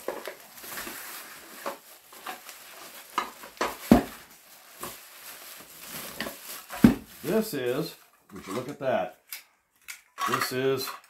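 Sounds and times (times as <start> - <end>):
bubble wrap rustling and crinkling: 0.0 - 9.1.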